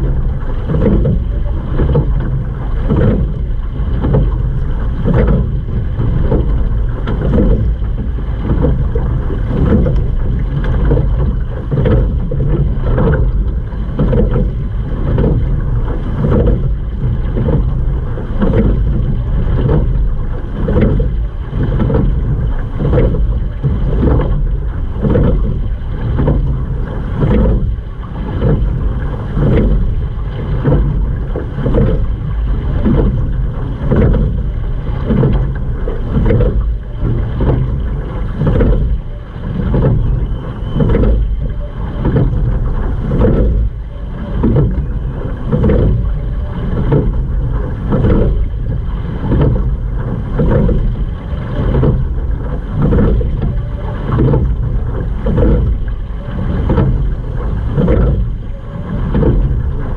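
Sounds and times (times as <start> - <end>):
water rushing along boat hull: 0.0 - 59.9.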